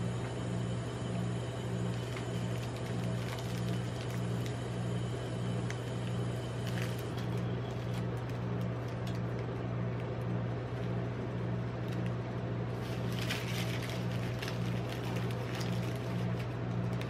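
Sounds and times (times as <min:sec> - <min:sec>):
machine low hum: 0:00.0 - 0:17.0
wrappers crinkling: 0:01.9 - 0:04.7, 0:05.7 - 0:17.0.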